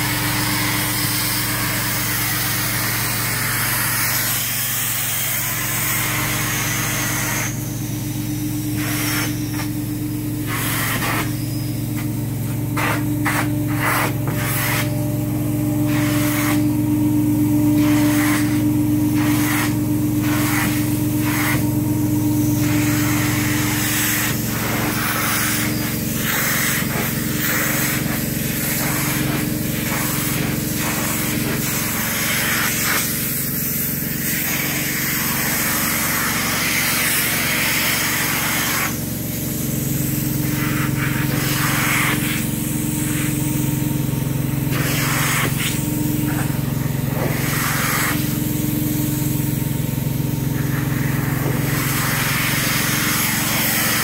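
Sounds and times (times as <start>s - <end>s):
hissing spray and suction: 0.0s - 43.9s, 44.6s - 49.5s, 50.5s - 54.0s
carpet cleaning unit droning: 0.0s - 54.0s.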